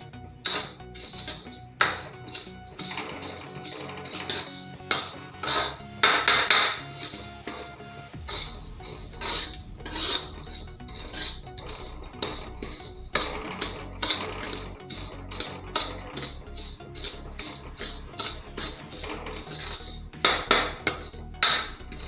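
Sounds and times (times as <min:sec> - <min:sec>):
spoon scraping a pan: 0:00.0 - 0:22.0.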